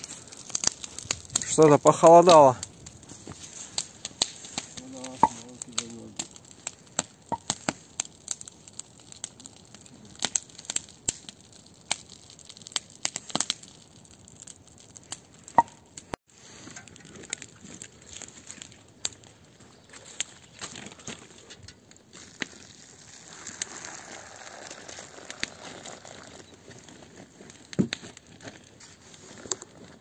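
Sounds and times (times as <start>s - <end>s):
fire cracking and clicking: 0.0s - 30.0s
kindling tearing and crumpling: 0.0s - 30.0s.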